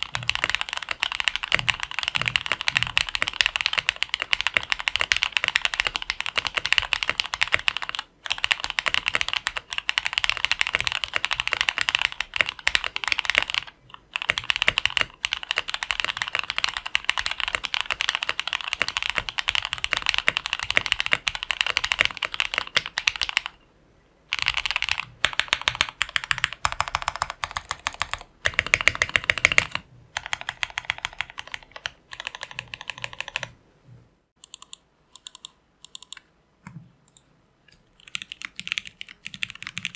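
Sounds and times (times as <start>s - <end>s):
fast typing on mechanical keyboard: 0.0s - 23.6s, 24.3s - 33.6s, 38.0s - 39.9s.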